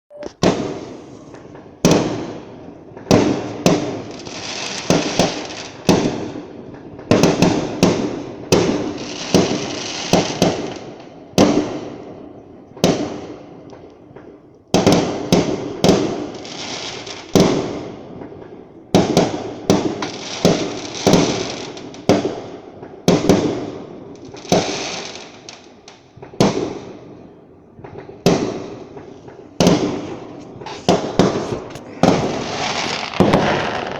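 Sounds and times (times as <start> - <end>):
fireworks banging: 0.2 - 12.2, 12.8 - 33.9.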